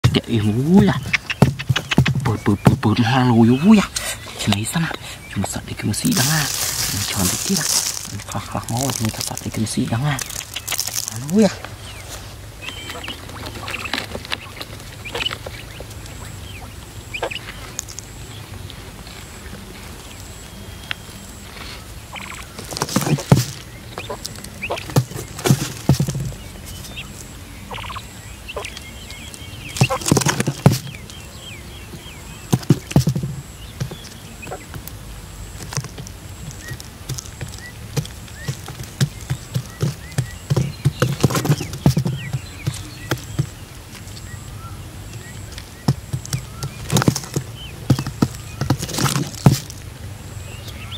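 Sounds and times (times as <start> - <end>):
quail pecking and scuffling: 0.0 - 50.9.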